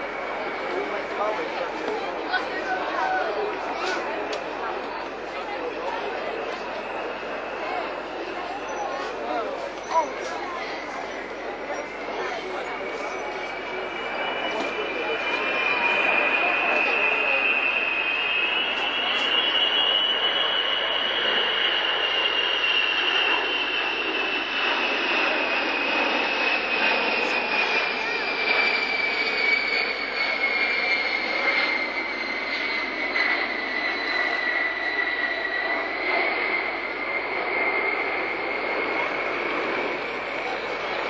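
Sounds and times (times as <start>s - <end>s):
jet engines roaring in flyby: 0.0s - 41.0s.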